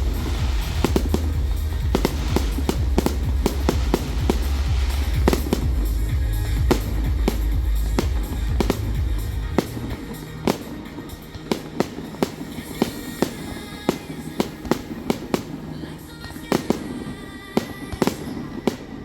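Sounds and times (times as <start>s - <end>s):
music with heavy bass: 0.0s - 16.8s
fireworks bangs and crackling: 0.0s - 19.0s.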